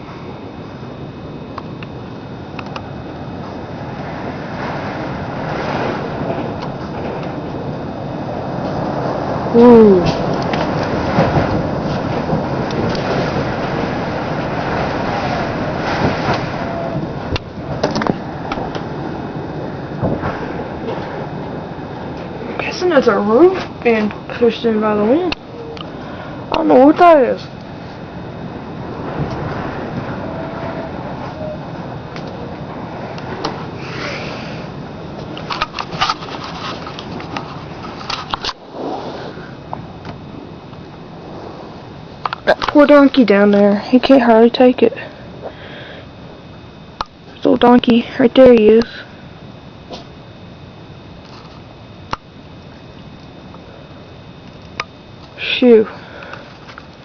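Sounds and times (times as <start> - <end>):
high wind roaring: 0.0 - 57.0.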